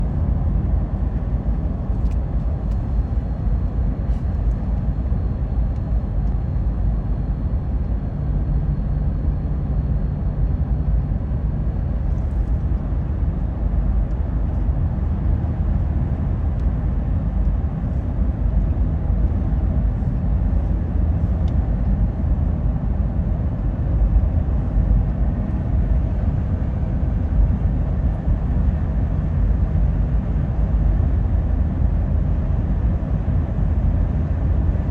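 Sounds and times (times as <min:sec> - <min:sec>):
car road and engine rumble: 0:00.0 - 0:07.8, 0:09.5 - 0:34.9.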